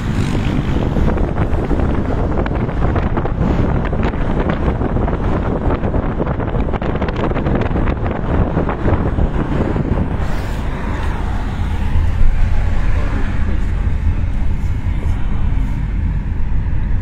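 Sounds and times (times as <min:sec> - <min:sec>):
car road noise: 0:00.0 - 0:17.0
wind buffeting microphone: 0:00.0 - 0:17.0.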